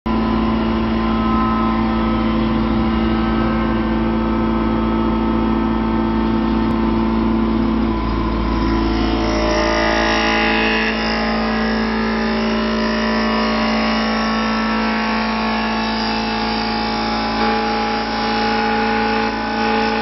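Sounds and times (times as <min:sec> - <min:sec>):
wood lathe humming: 0:00.1 - 0:20.0.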